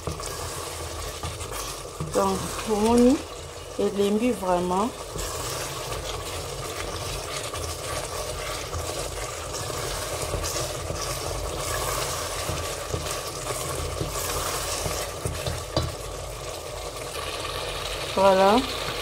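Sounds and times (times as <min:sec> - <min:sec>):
wooden spoon scraping a pot: 0:00.0 - 0:16.6
sauce sizzling and bubbling: 0:00.0 - 0:19.0.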